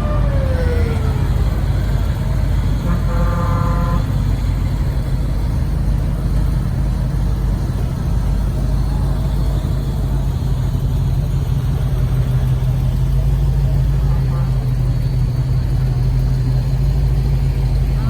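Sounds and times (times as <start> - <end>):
vehicle engine running at low revs: 0.0 - 18.0.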